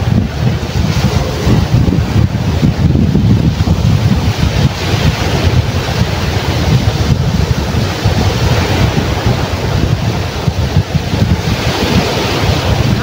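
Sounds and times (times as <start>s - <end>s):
heavy rumble: 0.0s - 13.0s
waves breaking on rocks: 0.0s - 13.0s
wind buffeting microphone: 0.0s - 13.0s.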